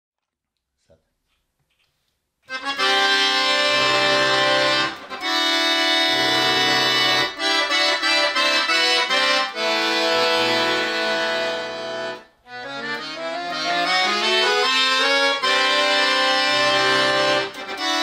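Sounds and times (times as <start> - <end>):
accordion playing chords: 2.5 - 18.0.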